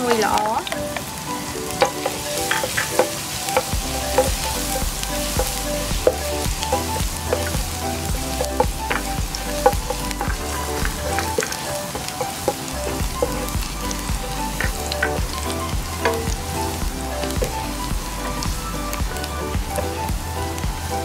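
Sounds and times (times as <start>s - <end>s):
background music with bass: 0.0s - 21.0s
garlic sizzling in oil: 0.0s - 21.0s.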